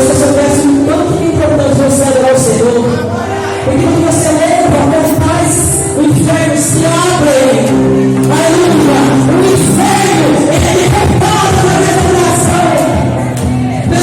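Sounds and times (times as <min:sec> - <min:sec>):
band playing gospel music: 0:00.0 - 0:14.0
person singing: 0:02.4 - 0:14.0.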